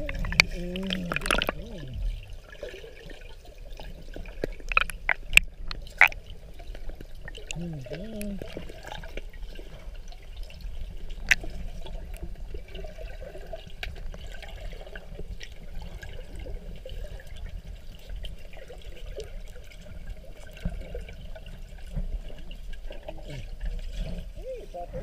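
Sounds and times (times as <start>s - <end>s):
muffled underwater sloshing: 0.0s - 25.0s.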